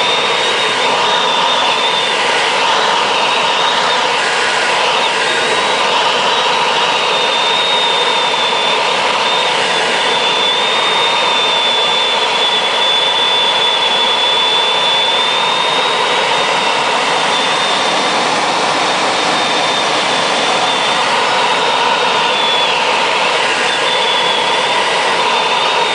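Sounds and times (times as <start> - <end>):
thin high whistle: 0.0 - 25.9.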